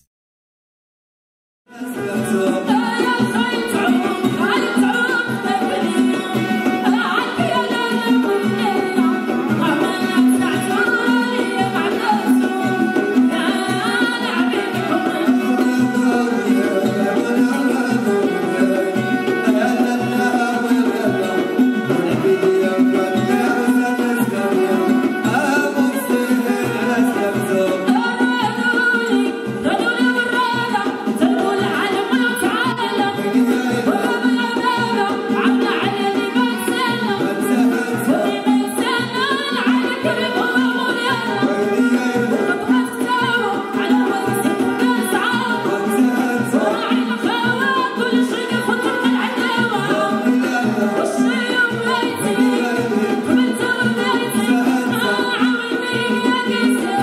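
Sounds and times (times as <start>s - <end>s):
oud: 1.7s - 57.0s
violin: 1.7s - 57.0s
woman singing: 1.7s - 57.0s.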